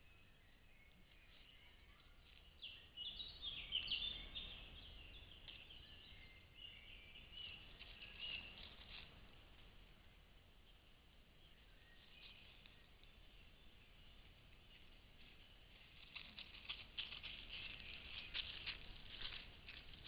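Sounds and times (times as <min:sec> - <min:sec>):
faint birdsong chirping: 0:00.0 - 0:20.0
low background hiss: 0:00.0 - 0:20.0.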